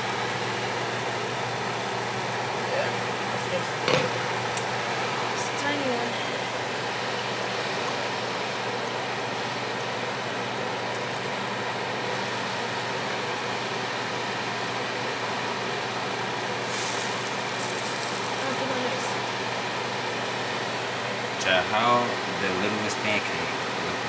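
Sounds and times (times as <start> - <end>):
mechanical hum and hiss: 0.0 - 24.0.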